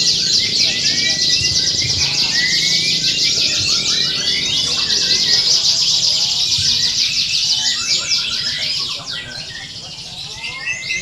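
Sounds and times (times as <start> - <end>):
canaries singing: 0.0 - 11.0.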